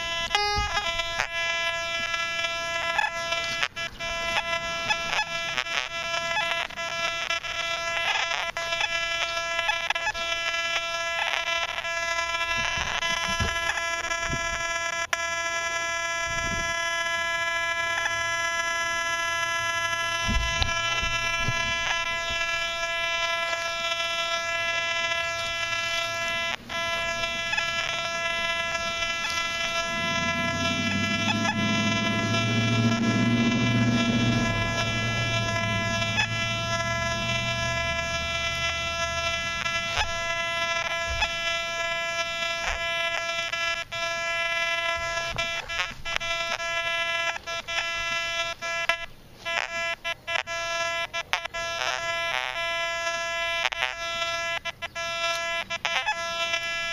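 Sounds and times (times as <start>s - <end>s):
metal detector beeps and chirps: 0.0s - 56.9s
steady buzzing tone: 0.0s - 56.9s.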